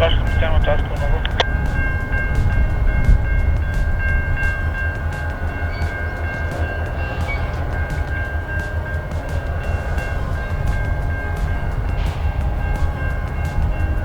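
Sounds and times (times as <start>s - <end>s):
diesel locomotive rumble: 0.0s - 14.0s
high whine: 0.0s - 14.0s
light regular ticking: 0.0s - 14.0s.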